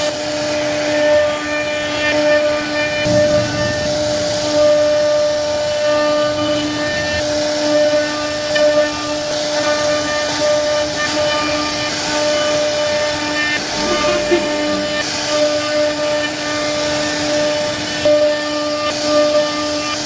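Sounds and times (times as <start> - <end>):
router spindle high whine: 0.0 - 20.0.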